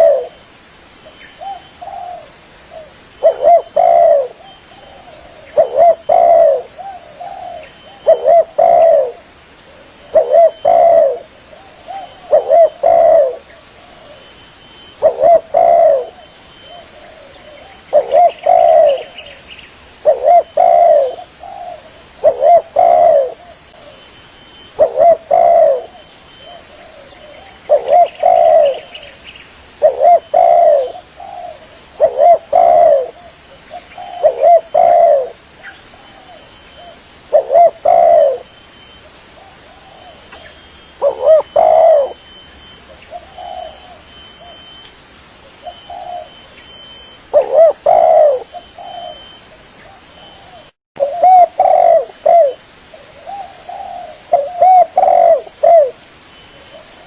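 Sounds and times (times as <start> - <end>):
dove cooing: 0.0 - 0.4, 1.4 - 29.2, 29.8 - 44.8, 45.4 - 56.0.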